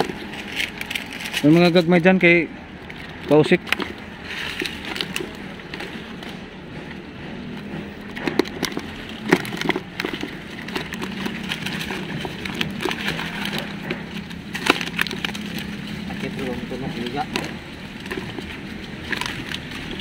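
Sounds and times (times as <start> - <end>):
hands rummaging wet leaves: 0.0 - 20.0.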